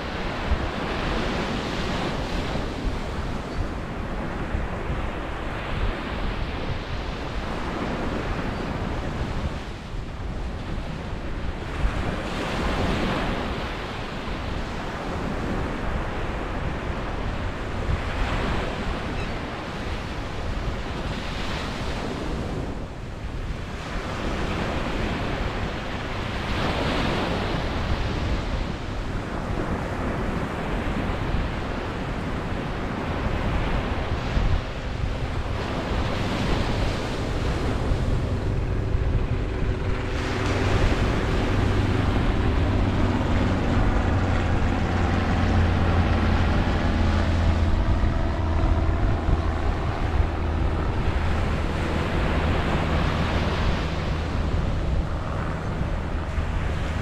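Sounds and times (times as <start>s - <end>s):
low steady drone: 0.0s - 57.0s
ocean surf breaking: 0.0s - 57.0s.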